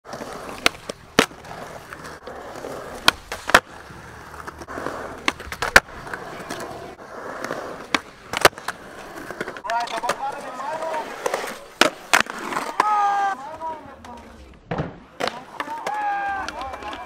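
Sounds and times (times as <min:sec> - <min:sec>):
skateboard wheels rolling on concrete: 0:00.0 - 0:17.0
skateboard clacking on ground: 0:00.1 - 0:06.8, 0:07.4 - 0:17.0.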